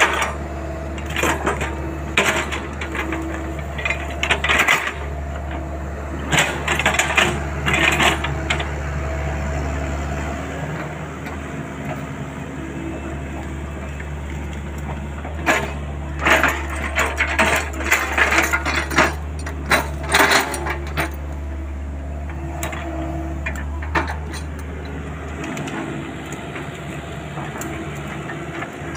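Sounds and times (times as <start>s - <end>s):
excavator bucket clanking and crunching: 0.0s - 9.0s, 10.6s - 28.9s
diesel engine running: 0.0s - 28.9s.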